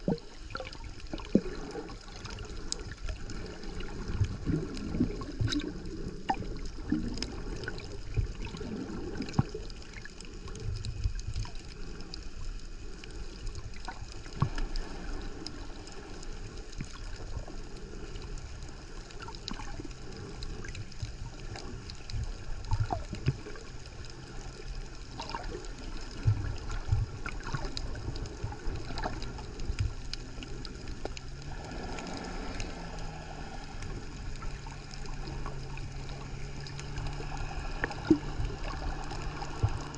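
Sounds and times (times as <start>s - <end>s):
steady low hum: 0.0s - 39.9s
underwater rumble of moving water: 0.0s - 39.9s
sharp clicks and crackles: 0.1s - 31.4s, 33.7s - 39.9s.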